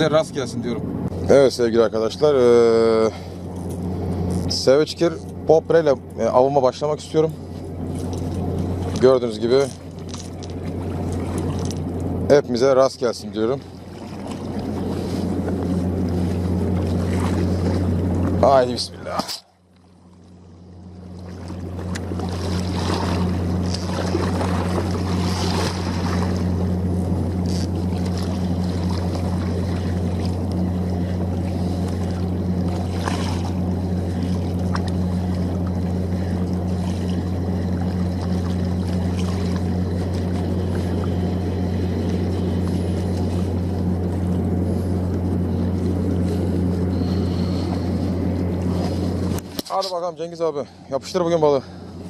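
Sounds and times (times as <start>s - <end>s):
ship machinery humming: 0.0s - 52.0s.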